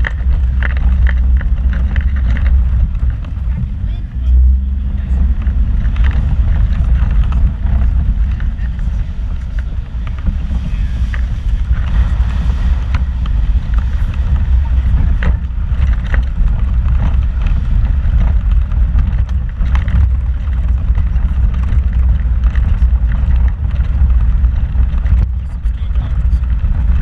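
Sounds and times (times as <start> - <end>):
wheels knocking over rocks: 0.0 - 4.2, 5.1 - 27.0
vehicle engine and tyres rumbling: 0.0 - 27.0.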